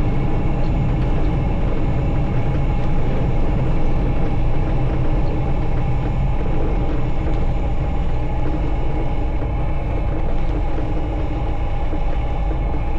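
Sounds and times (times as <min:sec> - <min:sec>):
light aircraft engine droning: 0:00.0 - 0:12.9.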